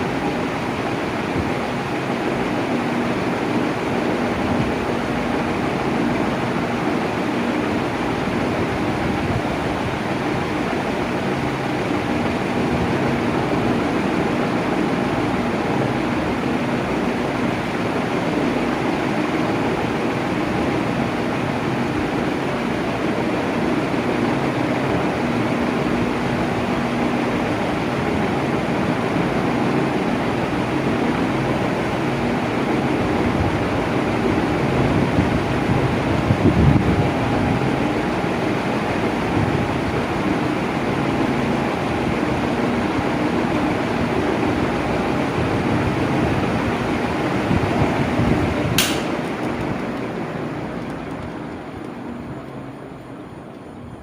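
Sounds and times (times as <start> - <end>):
electric fan air rushing: 0.0 - 54.0
faint motor hum: 0.0 - 54.0.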